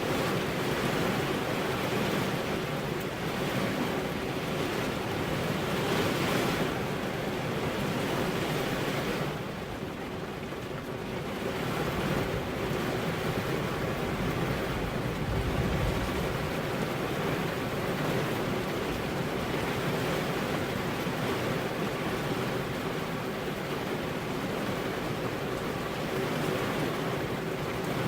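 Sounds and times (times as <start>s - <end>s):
rain on car window glass: 0.0s - 28.0s.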